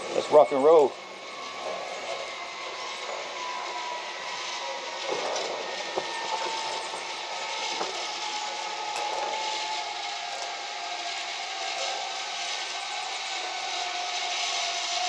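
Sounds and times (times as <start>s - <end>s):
zip-line pulleys whirring on cable: 0.0s - 15.0s.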